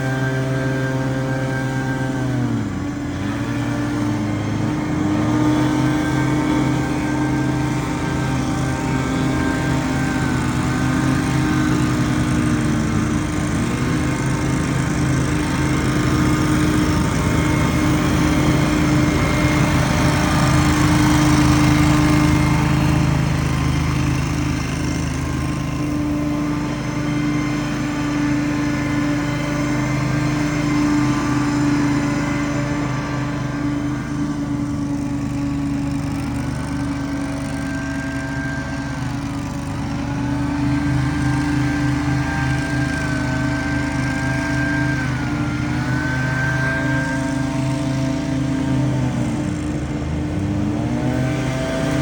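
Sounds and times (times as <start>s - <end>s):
small gasoline engine running: 0.0s - 52.0s.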